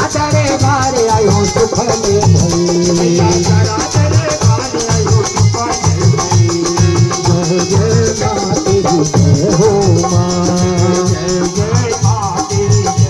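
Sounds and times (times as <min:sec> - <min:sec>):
folk melody line: 0:00.0 - 0:13.0
rhythmic drum beat: 0:00.0 - 0:13.0.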